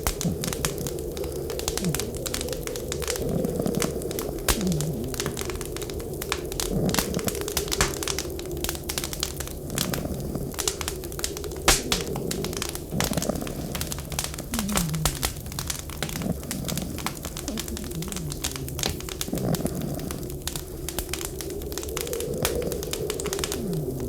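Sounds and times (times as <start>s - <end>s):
wind howling: 0.0s - 24.0s
wood fire crackling and popping: 0.0s - 24.0s.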